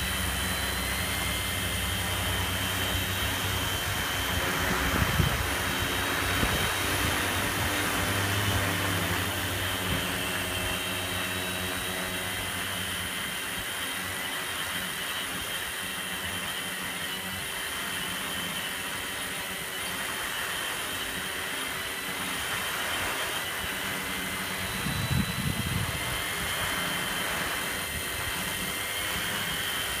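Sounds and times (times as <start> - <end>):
drone propellers whirring: 0.0 - 30.0.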